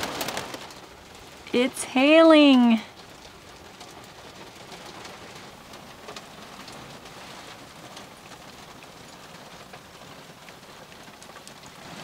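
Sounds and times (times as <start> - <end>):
hail falling: 0.0 - 12.0
hail pellets ticking: 0.0 - 12.0.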